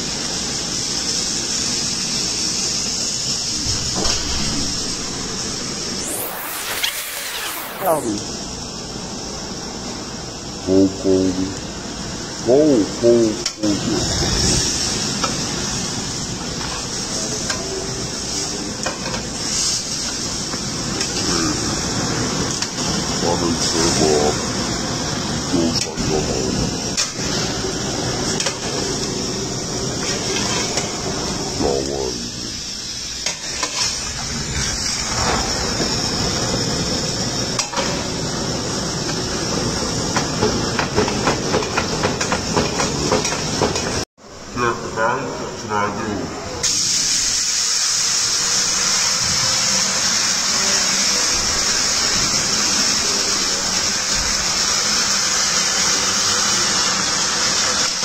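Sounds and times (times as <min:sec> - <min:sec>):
meat searing with hissing: 0:00.0 - 0:44.0, 0:46.6 - 0:58.0.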